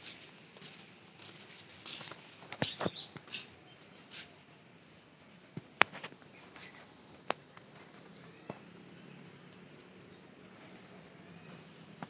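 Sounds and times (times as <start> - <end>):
high pulsing insect-like trill: 0.9 - 12.0.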